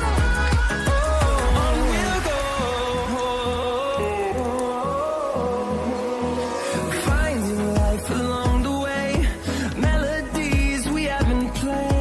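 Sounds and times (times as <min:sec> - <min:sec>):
pop music with synth tones: 0:00.0 - 0:12.0.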